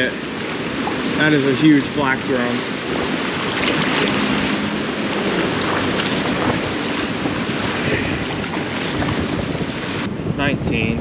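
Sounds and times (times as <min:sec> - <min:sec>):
surf washing around pilings: 0:00.0 - 0:11.0
wind buffeting microphone: 0:00.0 - 0:11.0.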